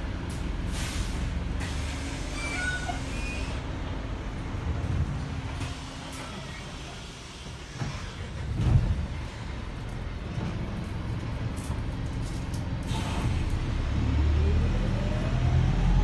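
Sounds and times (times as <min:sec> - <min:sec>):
bus diesel engine idling: 0:00.0 - 0:13.7.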